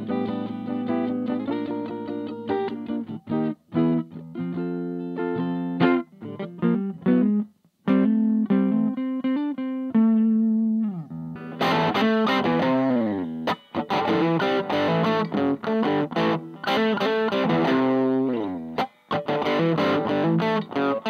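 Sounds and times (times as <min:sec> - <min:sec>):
electric guitar: 0:00.0 - 0:21.0.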